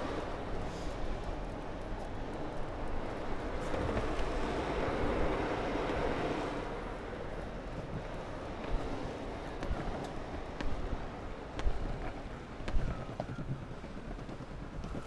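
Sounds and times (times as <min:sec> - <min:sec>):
bus running: 0:00.0 - 0:13.4
longboard wheels rolling: 0:00.0 - 0:15.0.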